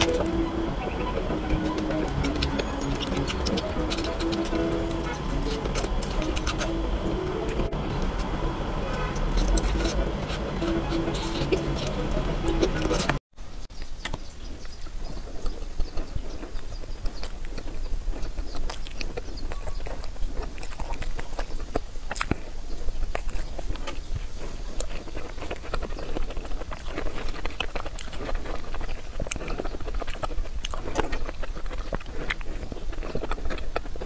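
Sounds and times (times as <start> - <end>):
biting and chewing cake: 0.0 - 34.0
mouth clicks: 0.0 - 34.0.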